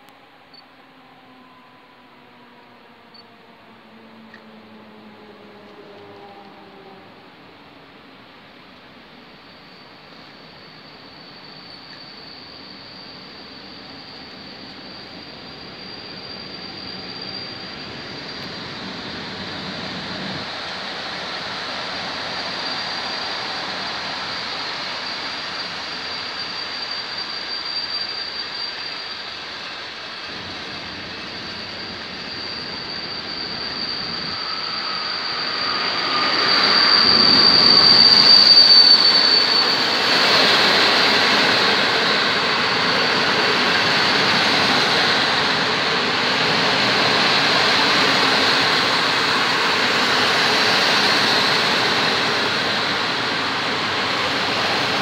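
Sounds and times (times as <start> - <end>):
electric locomotive whine: 0.0 - 55.0
train coaches rolling past: 0.2 - 55.0.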